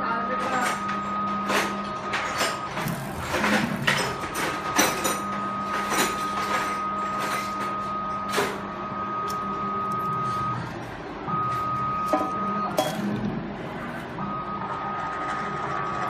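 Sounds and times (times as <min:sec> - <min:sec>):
cable stripping machine whine: 0:00.0 - 0:16.0.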